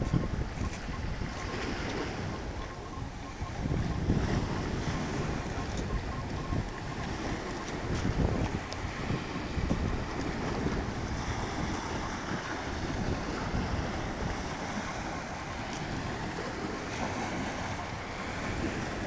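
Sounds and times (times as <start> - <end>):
waves washing onto stony shore: 0.0 - 19.0
wind buffeting microphone: 0.0 - 19.0.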